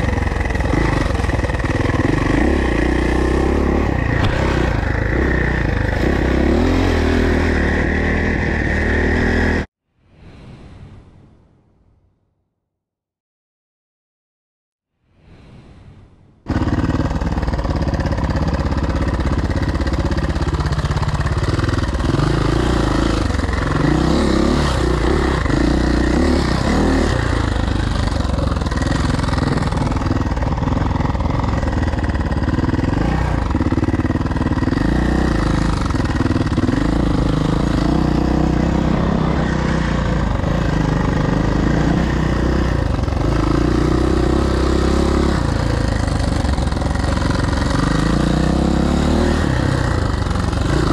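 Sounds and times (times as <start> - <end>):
motocross bike engine revving: 0.0 - 9.7, 16.5 - 50.9.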